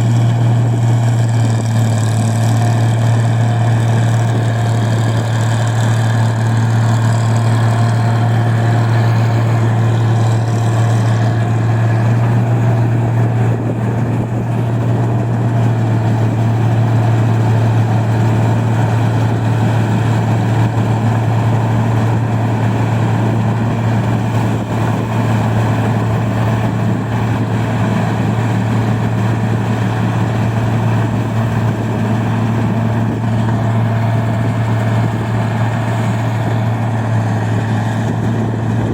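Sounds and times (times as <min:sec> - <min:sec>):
machine engine droning: 0:00.0 - 0:38.9.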